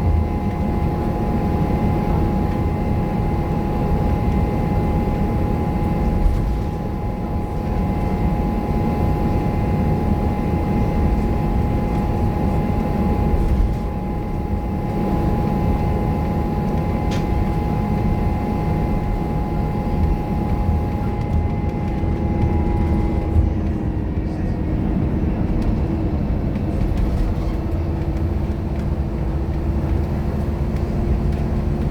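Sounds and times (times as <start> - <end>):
bus engine and road rumble: 0.0 - 31.9.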